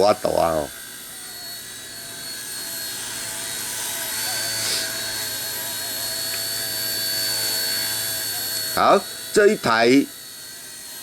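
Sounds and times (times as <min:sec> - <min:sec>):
rc helicopter motor whine: 0:00.0 - 0:11.0
rotor hum: 0:00.0 - 0:11.0.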